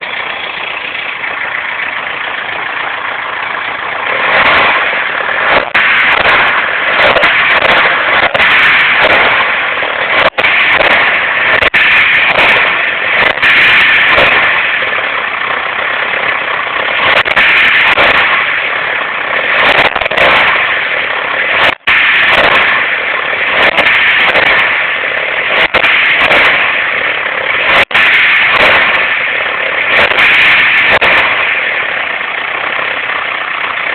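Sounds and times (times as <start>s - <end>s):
car engine revving: 0.0s - 33.9s
strange noise as revs drop: 0.0s - 33.9s.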